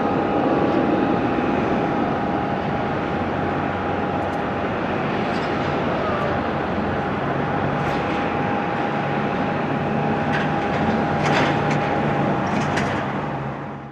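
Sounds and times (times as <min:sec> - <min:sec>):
thin steady whine: 0:00.0 - 0:11.3
jet engine roar: 0:00.0 - 0:13.9.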